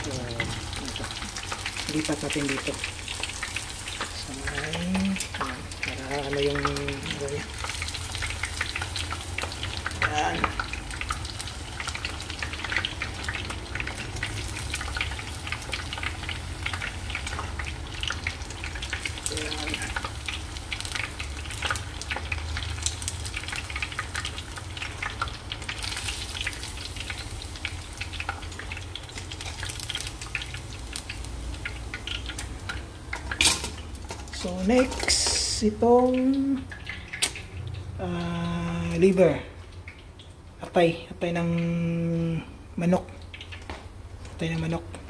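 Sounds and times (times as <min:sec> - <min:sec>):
tofu sizzling in hot oil: 0:00.0 - 0:45.0.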